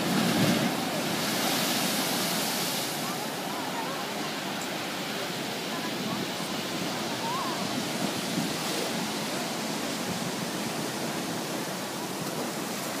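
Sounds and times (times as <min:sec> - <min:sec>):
surf washing and breaking: 0:00.0 - 0:13.0.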